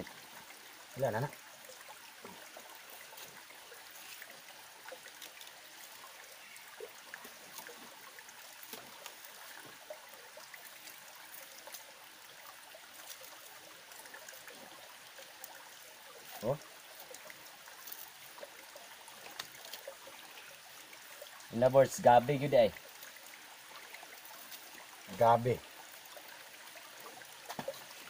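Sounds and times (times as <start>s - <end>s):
stream running water: 0.0s - 28.0s.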